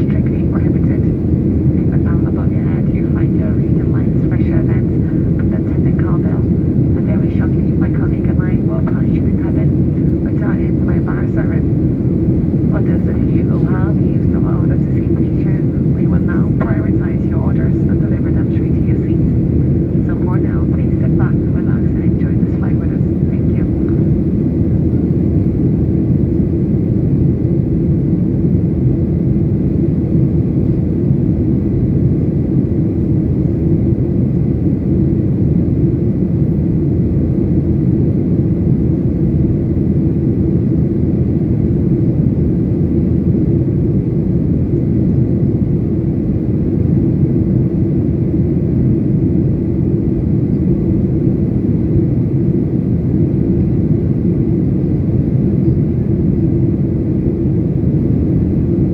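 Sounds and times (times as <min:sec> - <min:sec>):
airliner cabin rumble: 0:00.0 - 0:58.9.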